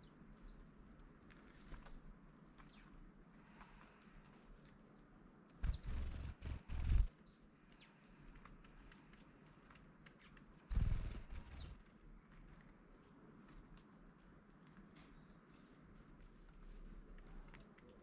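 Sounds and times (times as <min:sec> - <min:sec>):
small birds chirping: 0:00.0 - 0:12.6, 0:14.8 - 0:18.0.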